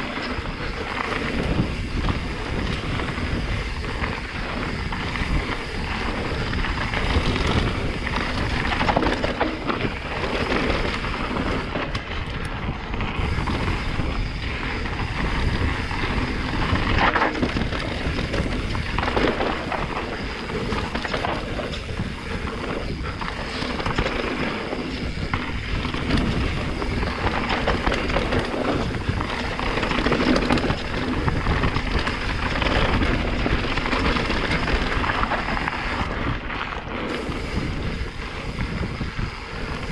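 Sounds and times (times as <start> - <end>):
bike chain and frame clatter: 0.0 - 39.9
tyres rolling over dirt and rock: 0.0 - 39.9
wind on microphone: 0.0 - 39.9.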